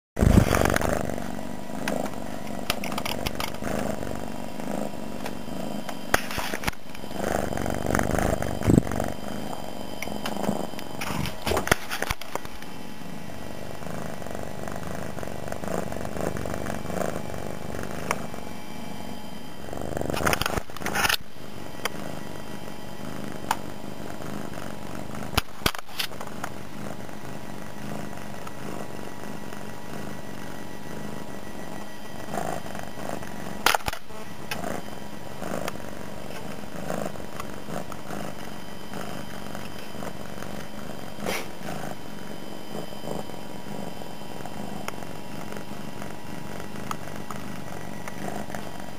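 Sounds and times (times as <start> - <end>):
cat purring loudly: 0.2 - 48.9.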